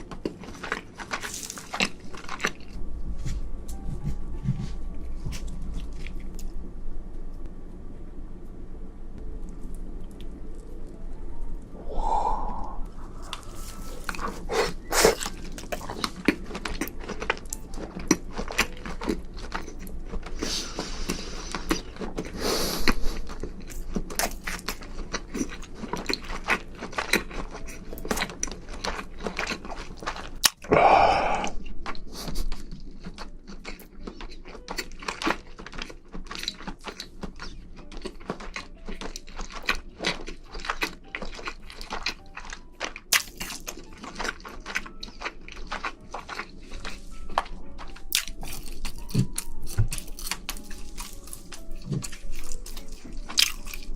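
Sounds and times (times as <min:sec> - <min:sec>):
chewing and crunching: 0:00.0 - 0:02.8, 0:05.3 - 0:06.6, 0:12.9 - 0:53.9.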